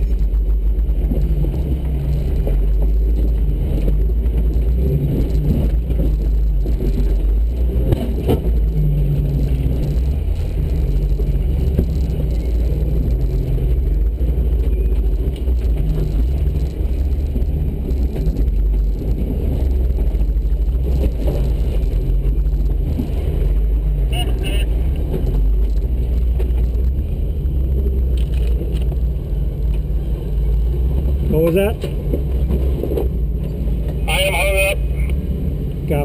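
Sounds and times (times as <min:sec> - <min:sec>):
engine rumbling at low revs: 0:00.0 - 0:36.0.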